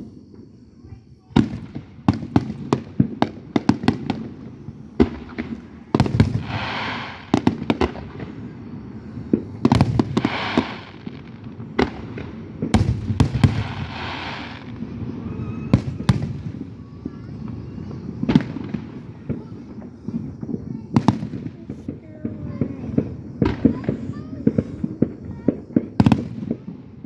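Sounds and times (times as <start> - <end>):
fireworks bangs: 0.0 - 27.0
fireworks hissing: 0.0 - 27.0.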